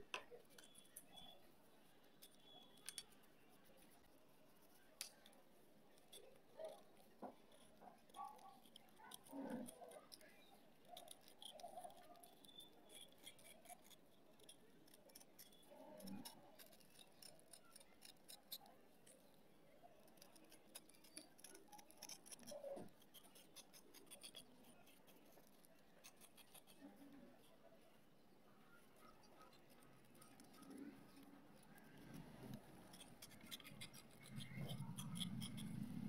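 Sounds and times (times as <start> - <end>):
knife scraping dried clay: 0.0 - 27.9, 28.5 - 36.0.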